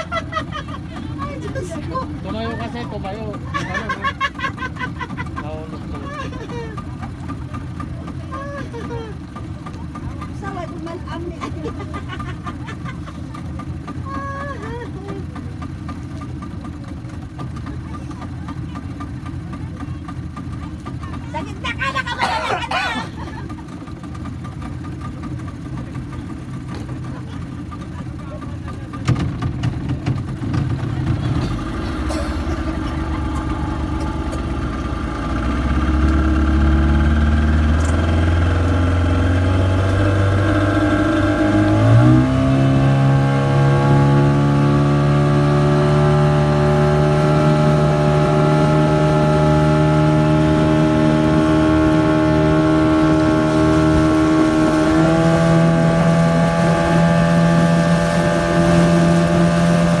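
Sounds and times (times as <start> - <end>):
speedboat engine running: 0.0 - 60.0.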